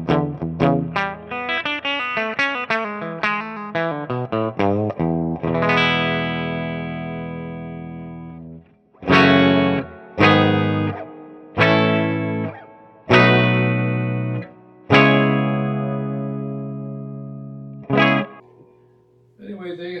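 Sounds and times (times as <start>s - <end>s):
overdriven electric guitar chords: 0.0s - 19.2s.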